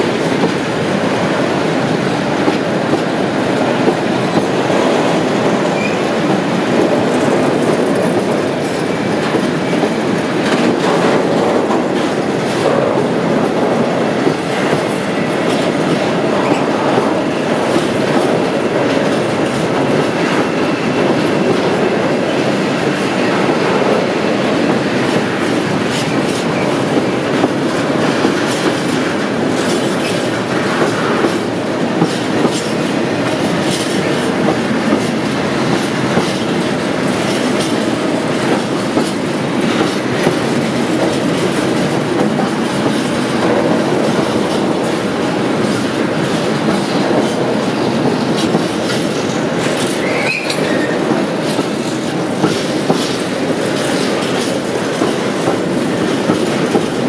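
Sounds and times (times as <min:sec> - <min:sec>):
freight train rolling rumble: 0:00.0 - 0:57.0.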